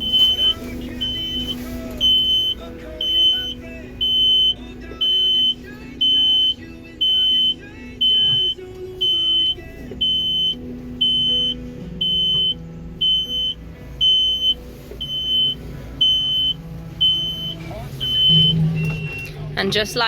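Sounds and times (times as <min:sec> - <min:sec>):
high warning beeps: 0:00.0 - 0:20.0
low machine hum: 0:00.0 - 0:20.0.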